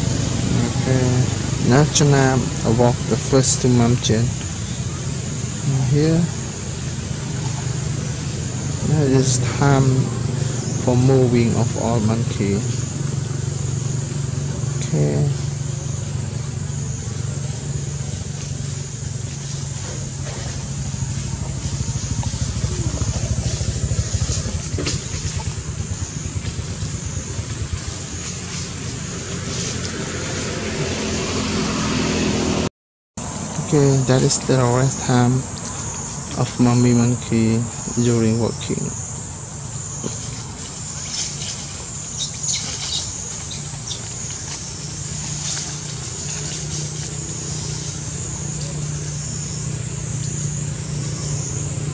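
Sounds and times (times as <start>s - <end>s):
high-pitched insect drone: 0.0s - 32.6s, 33.2s - 51.9s
constant low hum: 0.0s - 51.9s
low mechanical rumble: 0.0s - 51.9s.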